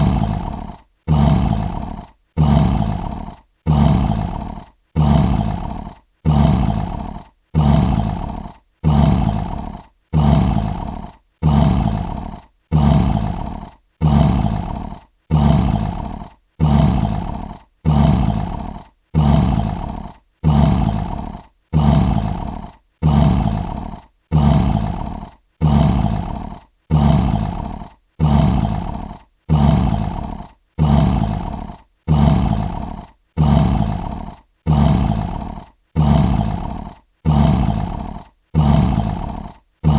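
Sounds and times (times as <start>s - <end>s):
lion roaring grunts: 0.0s - 39.9s.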